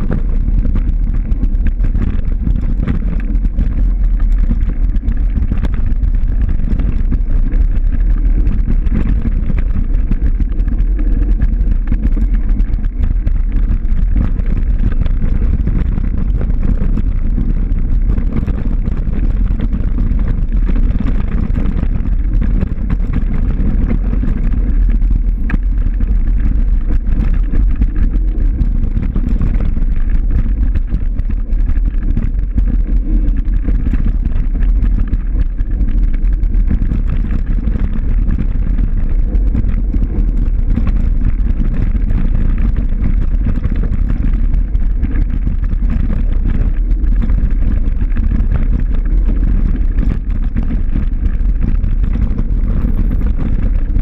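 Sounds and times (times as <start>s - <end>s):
faint clicks and rattles: 0.0s - 54.0s
wind buffeting microphone: 0.0s - 54.0s.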